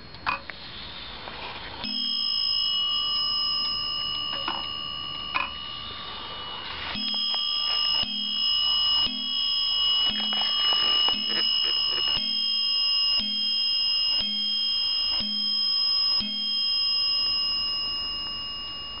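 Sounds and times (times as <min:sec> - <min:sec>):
clock bell striking: 0:01.8 - 0:19.0.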